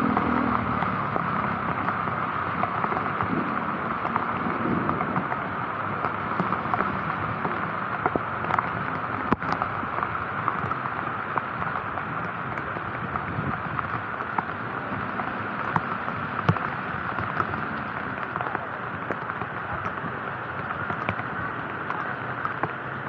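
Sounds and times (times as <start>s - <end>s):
raindrops ticking on camera: 0.0s - 23.0s
steady rain: 0.0s - 23.0s
wet road hiss: 0.0s - 23.0s.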